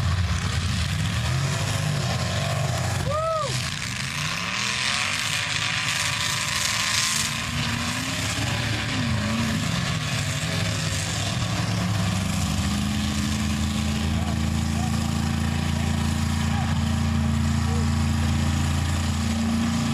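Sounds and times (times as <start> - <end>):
tires churning mud: 0.0 - 19.9
truck engine running hard: 0.0 - 19.9.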